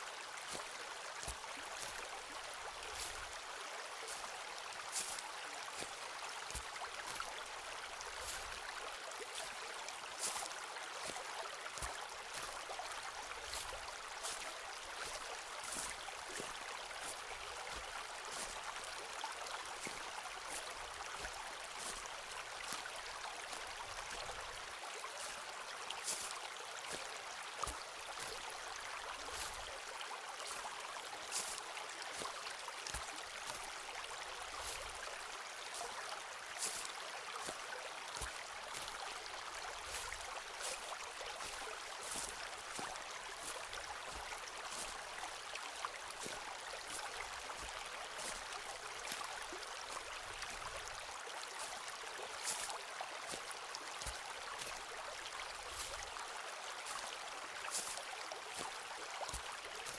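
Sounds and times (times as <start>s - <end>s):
flowing water: 0.0s - 59.9s
footsteps crunching on forest floor: 0.3s - 59.9s.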